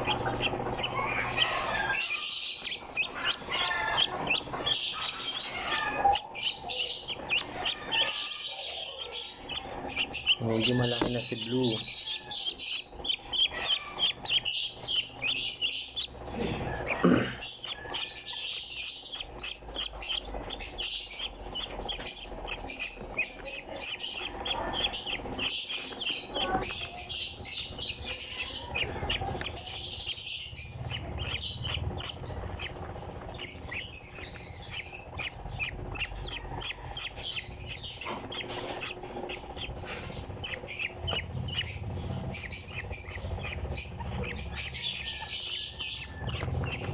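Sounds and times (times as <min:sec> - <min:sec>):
lovebird chirping: 0:00.0 - 0:46.9.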